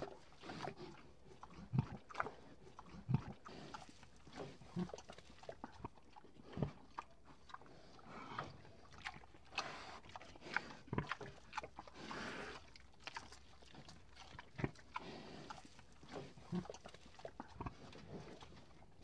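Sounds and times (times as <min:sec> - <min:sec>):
cow chewing watermelon: 0:00.0 - 0:19.0.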